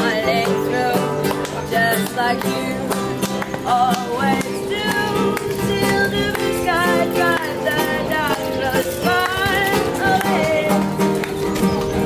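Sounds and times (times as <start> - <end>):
acoustic guitar strumming: 0.0 - 12.0
guitar melody with vibrato: 0.0 - 12.0.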